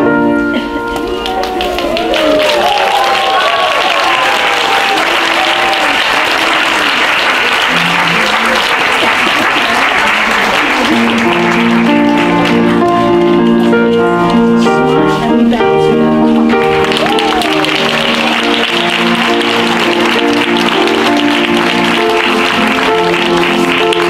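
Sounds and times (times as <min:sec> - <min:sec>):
audience applauding: 0:00.9 - 0:12.9, 0:16.5 - 0:24.0.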